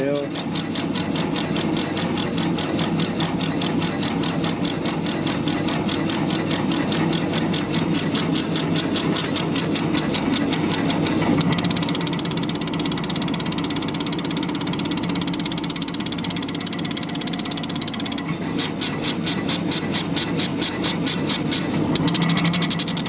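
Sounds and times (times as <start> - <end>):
laser engraver head scanning: 0.0 - 23.0
steady machine hum: 0.0 - 23.0.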